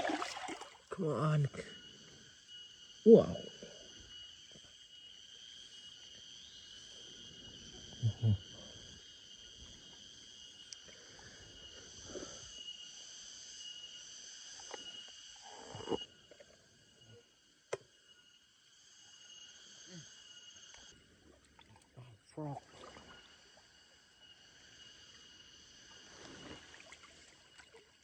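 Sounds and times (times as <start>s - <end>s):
insects chirping in chorus: 0.0s - 28.0s.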